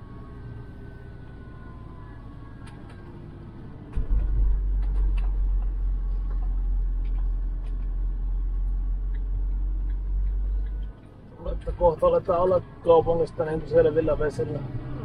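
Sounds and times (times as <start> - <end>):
motorhome road rumble: 0.0 - 15.0.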